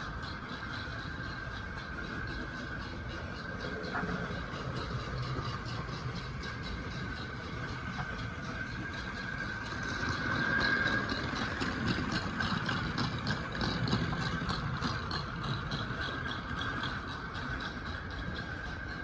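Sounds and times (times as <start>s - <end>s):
model locomotive motor whine: 0.0s - 19.0s
toy boxcar rattling: 0.0s - 19.0s
wheels rumbling on track: 0.0s - 19.0s
rocks bouncing on a roller: 0.1s - 19.0s.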